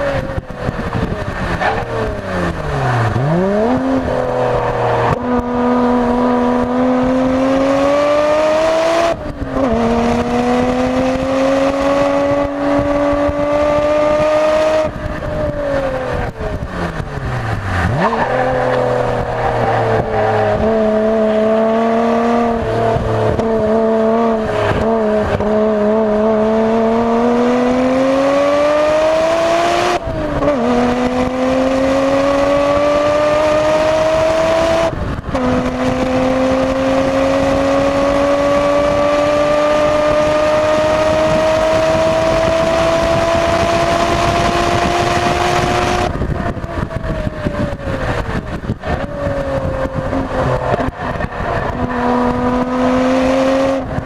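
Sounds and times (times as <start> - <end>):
car engine revving at full throttle: 0.0 - 54.0.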